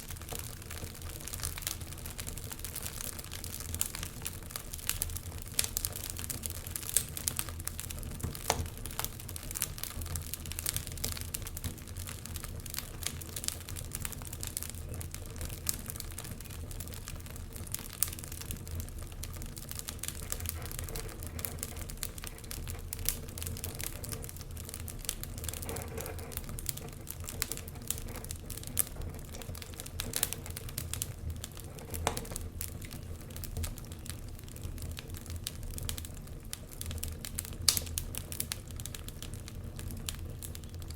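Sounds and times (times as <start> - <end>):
logs crackling and popping: 0.0 - 40.9
low rumble of flames: 0.0 - 40.9.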